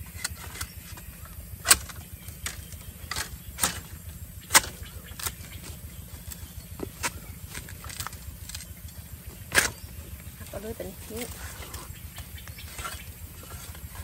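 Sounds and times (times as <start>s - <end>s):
metal bar striking soil and roots: 0.0s - 14.0s.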